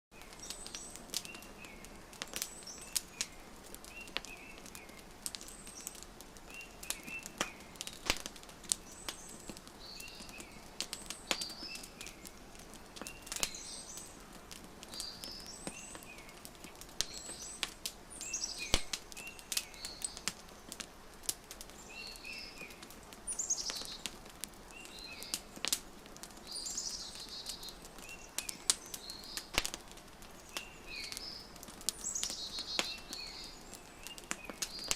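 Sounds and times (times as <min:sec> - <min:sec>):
small birds chirping: 0:00.1 - 0:34.9
wood fire crackling: 0:00.1 - 0:34.9.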